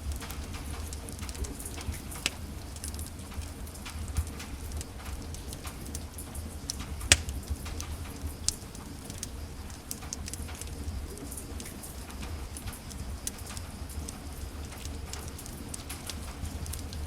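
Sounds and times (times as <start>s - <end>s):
wood fire crackling: 0.3s - 17.0s.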